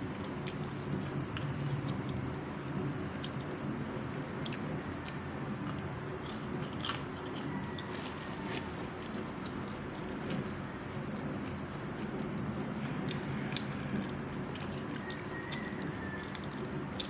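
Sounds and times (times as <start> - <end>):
person chewing food: 0.1 - 3.5, 4.4 - 17.0.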